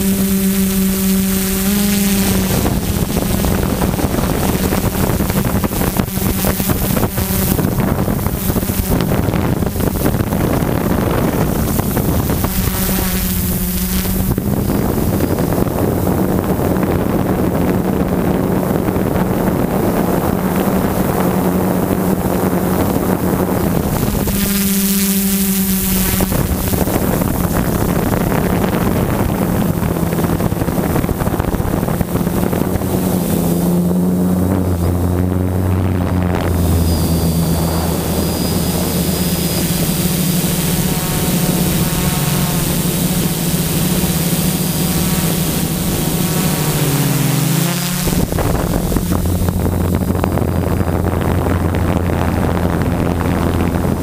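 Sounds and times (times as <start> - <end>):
drone motors humming: 0.0 - 54.0
wind rush on microphone: 0.0 - 54.0.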